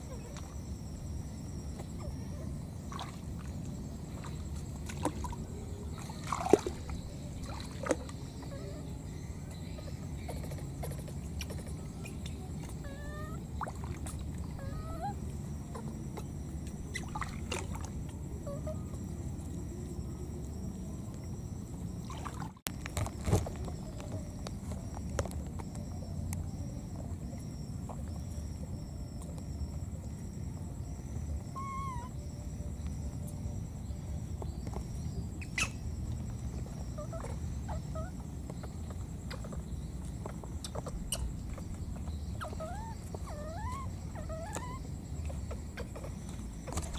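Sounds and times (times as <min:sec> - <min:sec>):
faint squeaks and chirps: 0:00.0 - 0:46.9.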